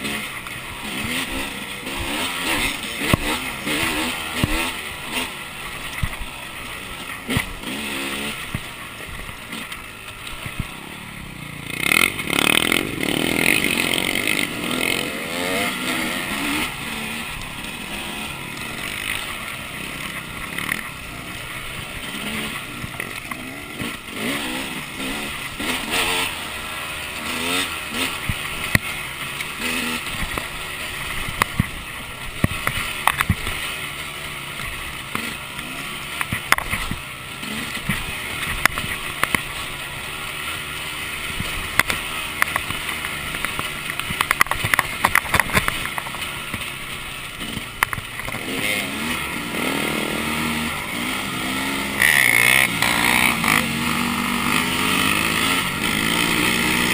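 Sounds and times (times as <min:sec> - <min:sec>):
two-stroke motorbike engine revving: 0:00.0 - 0:56.9.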